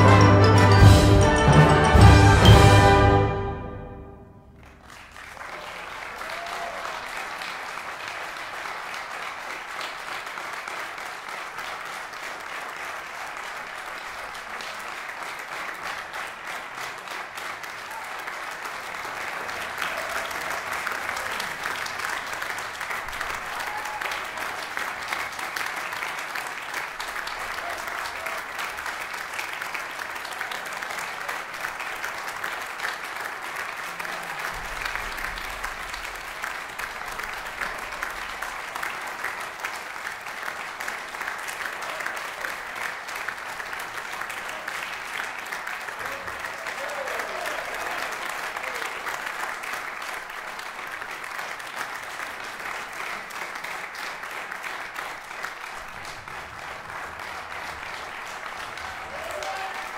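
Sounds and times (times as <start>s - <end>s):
many hands clapping: 4.5s - 59.9s.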